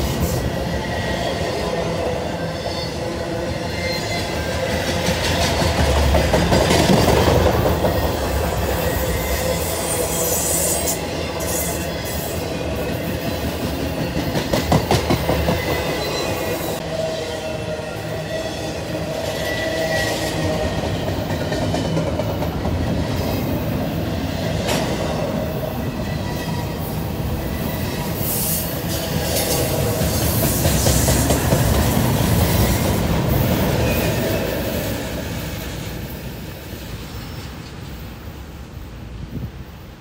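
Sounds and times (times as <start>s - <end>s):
train wheels rumbling over rails: 0.0s - 39.9s.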